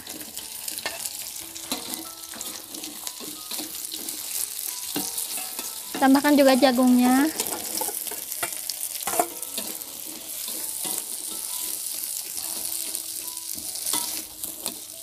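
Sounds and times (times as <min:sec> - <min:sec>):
metal spatula scraping a wok: 0:00.0 - 0:15.0
vegetables sizzling in hot oil: 0:00.0 - 0:15.0.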